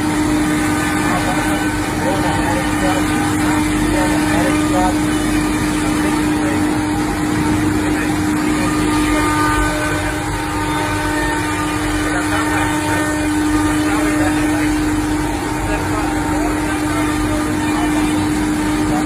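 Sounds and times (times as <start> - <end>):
dense mechanical noise: 0.0 - 19.0
router spindle whine: 0.0 - 19.0.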